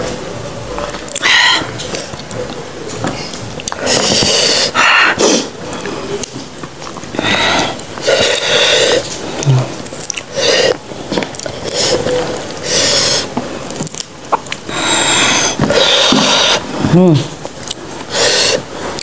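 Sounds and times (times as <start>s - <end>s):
chewing and breathing: 0.8s - 19.0s.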